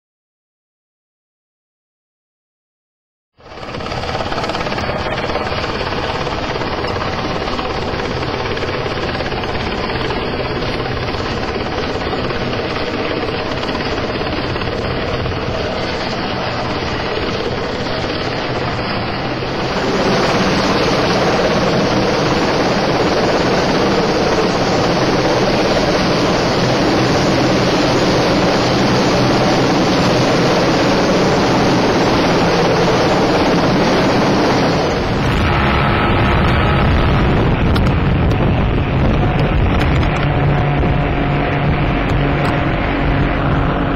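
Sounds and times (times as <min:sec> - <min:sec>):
helicopter hovering overhead: 0:03.4 - 0:43.9
rotor downwash wind rumble: 0:03.4 - 0:43.9.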